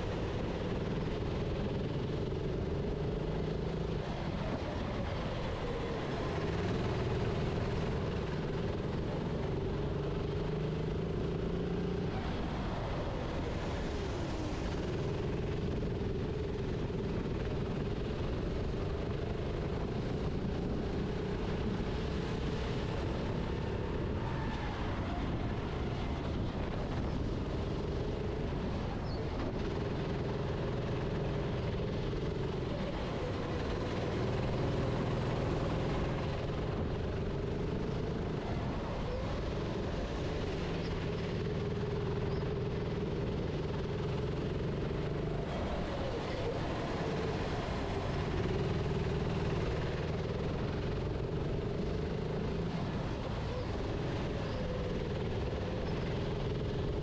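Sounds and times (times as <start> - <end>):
racing kart engine: 0.0 - 57.0
wind and rolling noise: 0.0 - 57.0.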